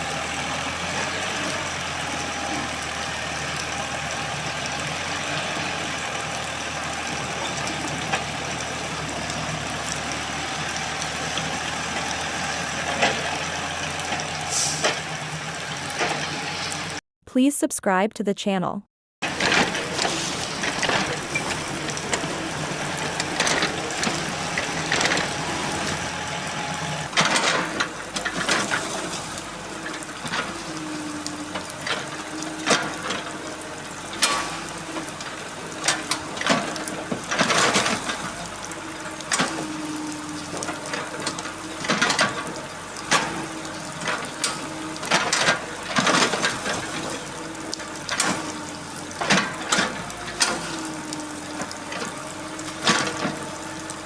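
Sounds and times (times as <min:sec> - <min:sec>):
excavator engine hum: 0:00.0 - 0:17.0, 0:19.2 - 0:54.0
water splashing and pouring: 0:00.0 - 0:17.0, 0:19.2 - 0:54.0.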